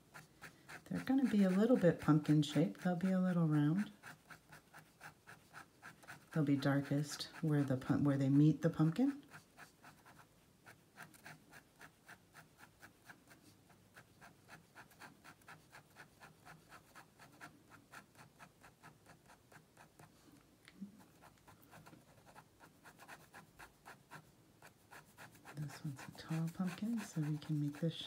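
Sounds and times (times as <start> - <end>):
pen scratching on paper: 0.0 - 20.2, 21.0 - 28.0.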